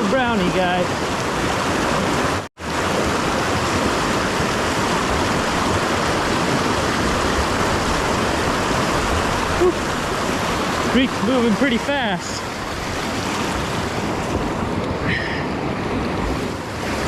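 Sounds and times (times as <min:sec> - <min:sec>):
mountain creek rushing: 0:00.0 - 0:17.0.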